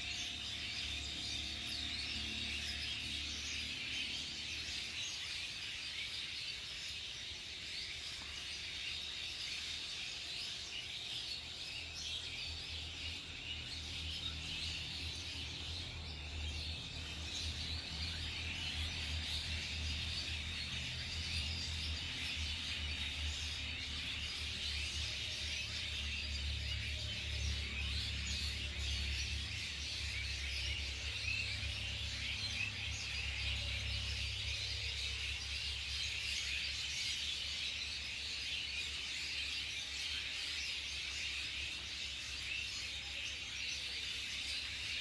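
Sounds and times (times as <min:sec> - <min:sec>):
high chirping chorus: 0:00.0 - 0:45.0.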